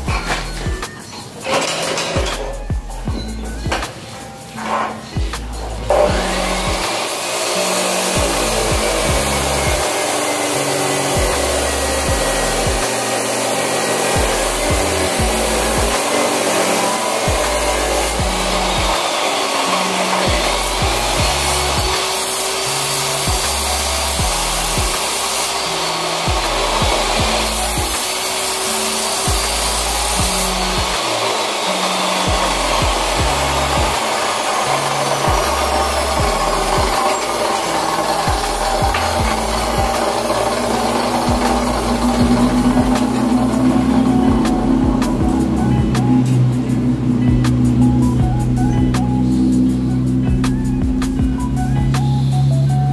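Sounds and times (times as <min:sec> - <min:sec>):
cut-off saw grinding steel: 0:00.0 - 0:52.9.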